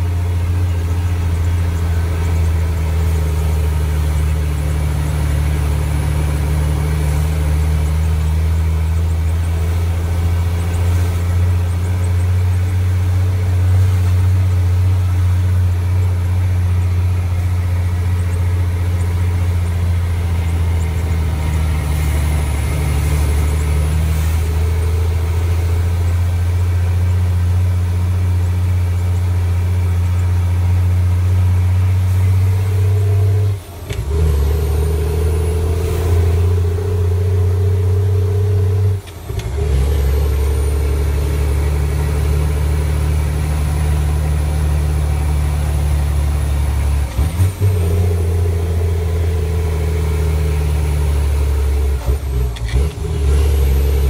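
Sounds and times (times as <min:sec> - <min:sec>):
diesel truck engine droning: 0:00.0 - 0:54.0.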